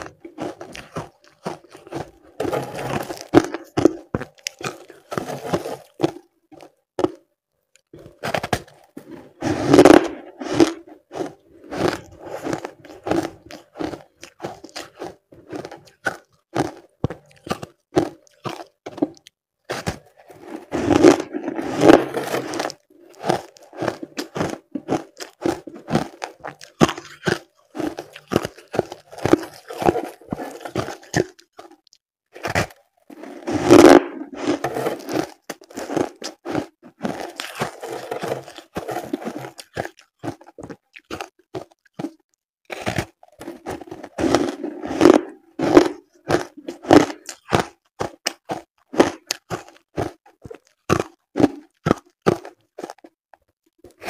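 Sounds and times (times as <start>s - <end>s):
crunching shaved ice: 0.0s - 7.2s, 8.0s - 53.1s.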